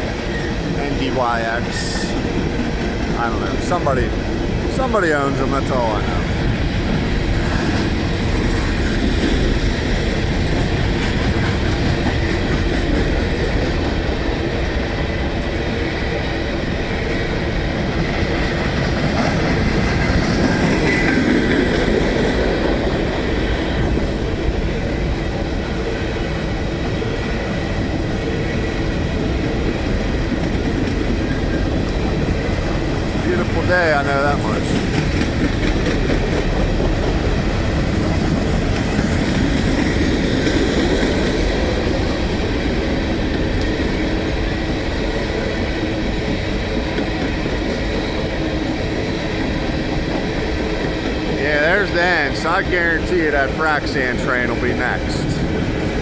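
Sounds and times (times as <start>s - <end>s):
freight cars rolling on rails: 0.0s - 56.0s.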